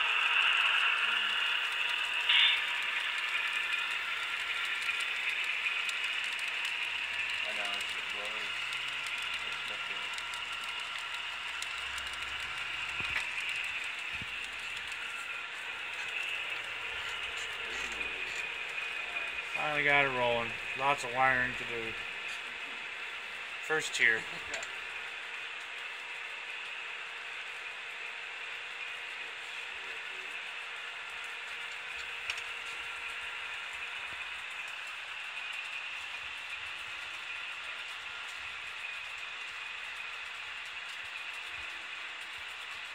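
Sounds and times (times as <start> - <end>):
wheels clicking on rail: 0.0 - 22.7, 28.7 - 42.9
model train motor whirring: 0.0 - 42.9.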